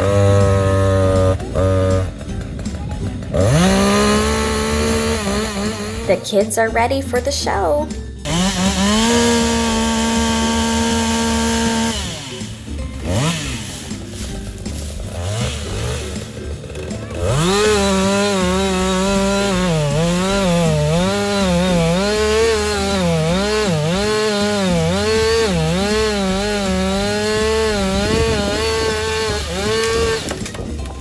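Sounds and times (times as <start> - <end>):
chainsaw running at high revs: 0.0 - 6.3, 8.2 - 31.0.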